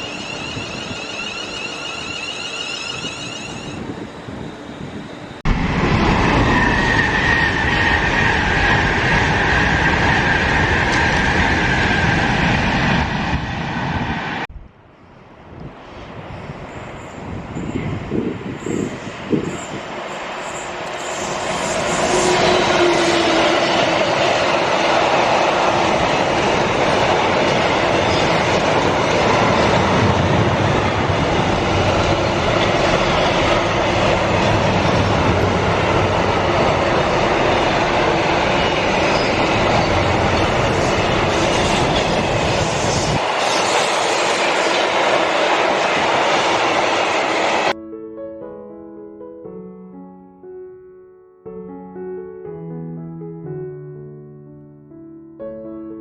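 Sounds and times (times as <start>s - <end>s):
train passing on rails: 0.0s - 47.8s.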